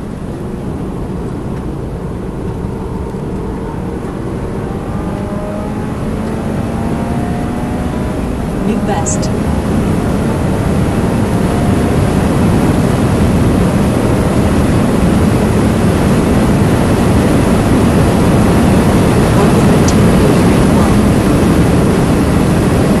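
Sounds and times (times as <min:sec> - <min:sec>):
car engine at full throttle: 0:00.0 - 0:23.0
road noise: 0:00.0 - 0:23.0
wind noise: 0:00.0 - 0:23.0.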